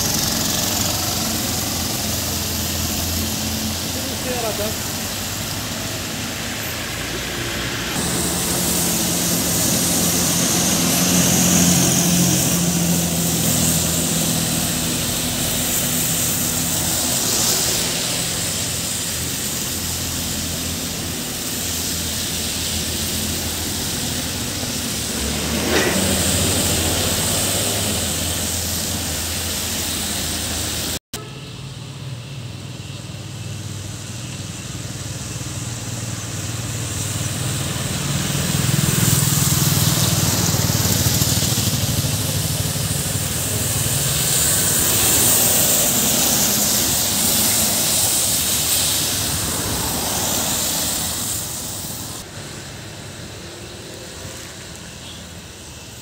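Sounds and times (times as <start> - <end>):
diesel bus engine running: 0.0 - 31.0, 31.6 - 55.4
tyres hissing on wet road: 0.0 - 56.0.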